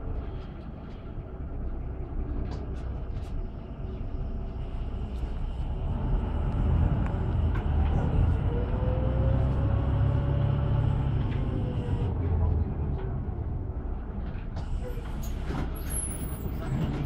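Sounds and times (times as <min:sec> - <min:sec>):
bus engine low rumble: 0:00.0 - 0:17.0.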